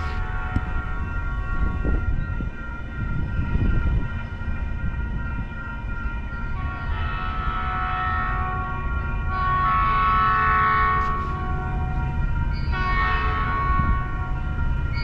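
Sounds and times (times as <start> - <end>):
railway warning tones: 0.0 - 15.0.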